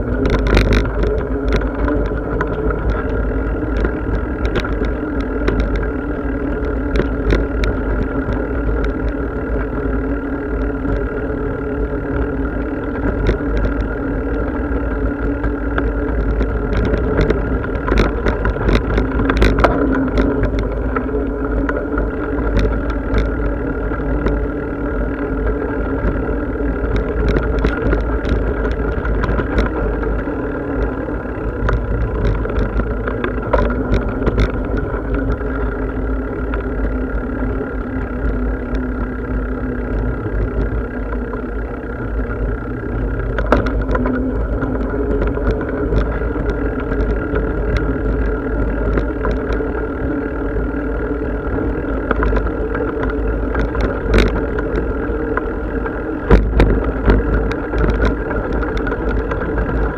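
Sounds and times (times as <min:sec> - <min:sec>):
bicycle clicks and rattles: 0:00.0 - 0:59.9
bicycle riding rumble: 0:00.0 - 0:59.9
droning tones: 0:00.0 - 0:59.9.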